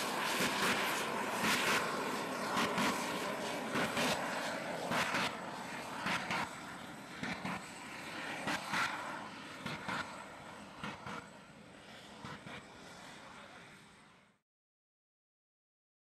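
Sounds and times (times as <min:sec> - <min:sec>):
jet engine roaring: 0:00.0 - 0:14.3.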